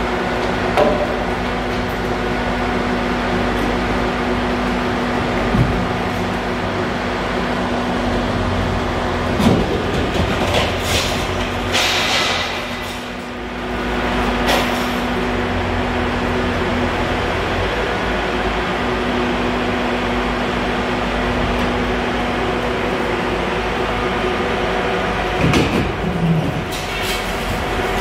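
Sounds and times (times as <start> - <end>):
demolition machine humming: 0.0 - 28.0.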